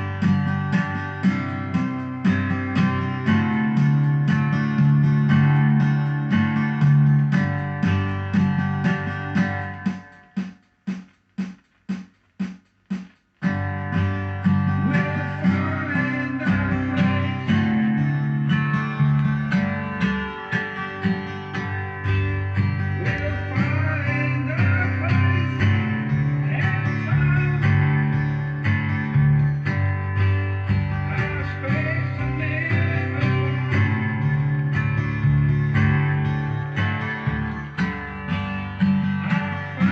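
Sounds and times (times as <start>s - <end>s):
guitar-driven music: 0.0s - 39.9s.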